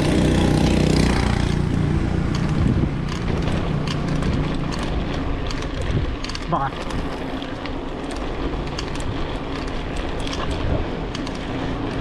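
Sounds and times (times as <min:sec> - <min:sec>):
road traffic: 0:00.0 - 0:12.0
vehicle engine running close: 0:00.0 - 0:12.0
wind noise on microphone: 0:00.0 - 0:12.0.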